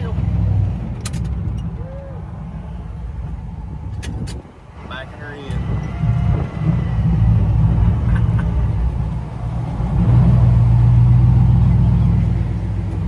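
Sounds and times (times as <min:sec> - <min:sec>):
vehicle engine deep rumble: 0:00.0 - 0:13.0.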